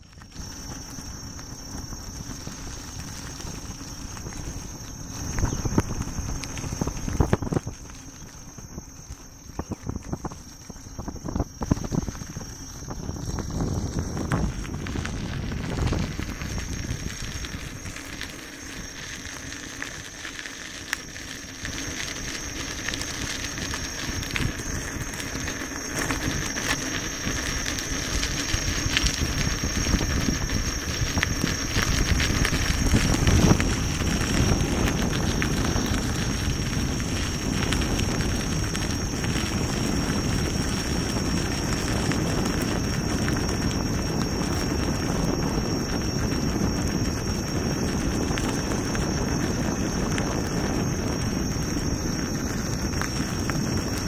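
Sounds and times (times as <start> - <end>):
thin high whine: 0.0 - 54.0
tyre crackling over gravel: 0.0 - 54.0
wind rumbling on microphone: 0.0 - 54.0.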